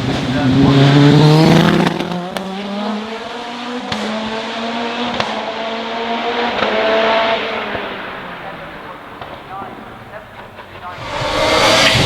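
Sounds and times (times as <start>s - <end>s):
racing car engine at full throttle: 0.0s - 9.6s, 10.9s - 12.0s.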